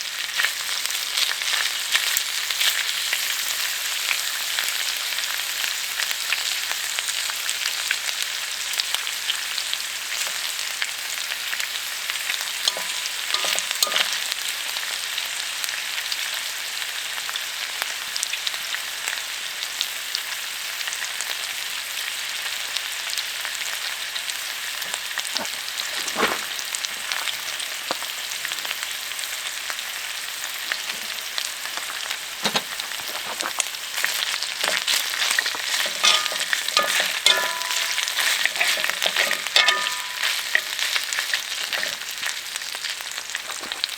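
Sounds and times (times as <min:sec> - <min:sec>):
food sizzling: 0:00.0 - 0:43.9.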